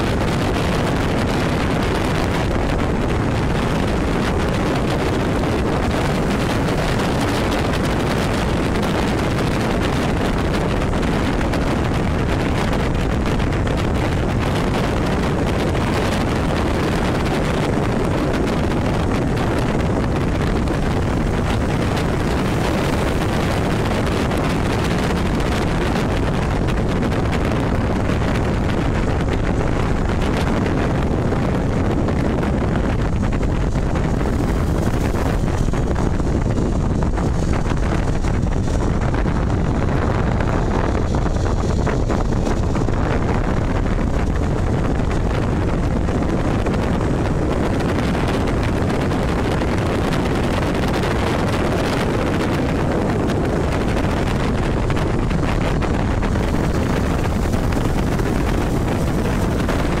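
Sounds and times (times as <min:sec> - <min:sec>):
low rumble: 0:00.0 - 1:00.0
wind buffeting microphone: 0:00.0 - 1:00.0.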